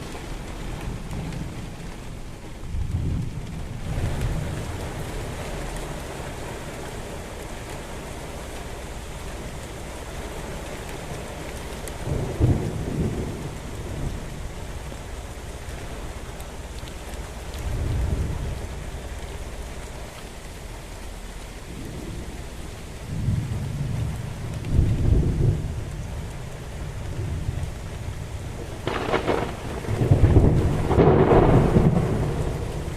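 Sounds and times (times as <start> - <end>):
thunder rumbling: 0.0 - 20.0, 21.5 - 32.9
steady rain falling: 0.0 - 32.9.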